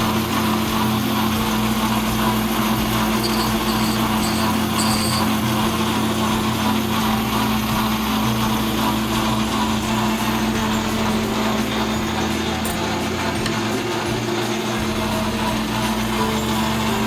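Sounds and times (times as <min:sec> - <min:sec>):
metal lathe motor hum: 0:00.0 - 0:17.0.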